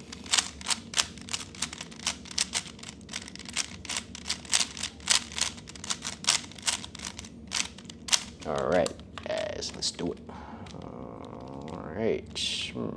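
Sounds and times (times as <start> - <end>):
puzzle cube clicking: 0.0 - 11.8.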